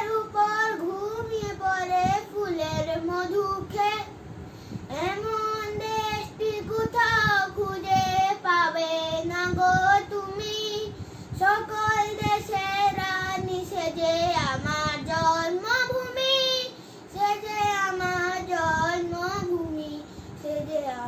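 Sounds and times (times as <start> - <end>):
child singing: 0.0 - 4.1, 4.9 - 21.0.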